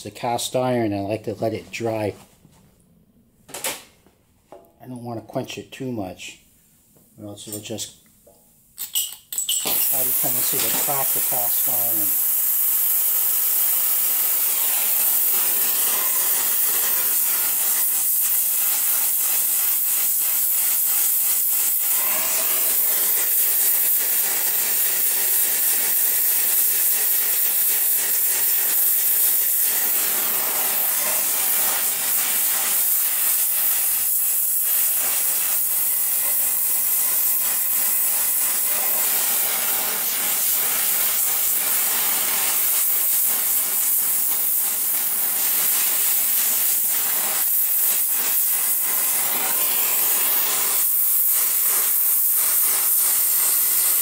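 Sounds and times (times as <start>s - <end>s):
gas torch flame hissing: 8.9s - 54.0s.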